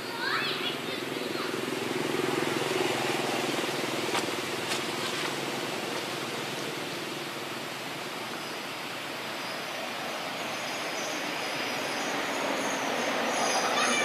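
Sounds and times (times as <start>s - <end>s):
distant small engine humming: 0.0s - 14.0s.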